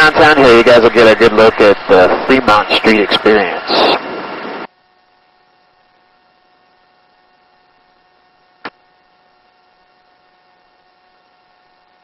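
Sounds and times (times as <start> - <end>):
faint electrical hum and hiss: 0.0 - 12.0.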